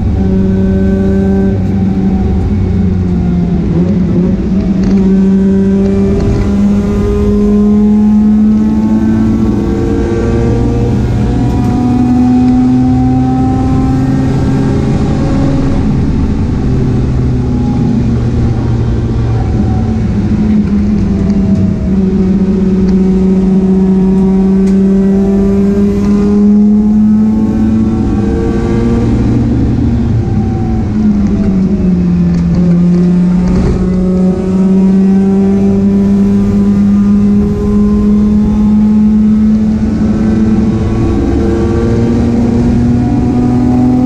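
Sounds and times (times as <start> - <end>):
race car engine revving high: 0.0 - 44.0.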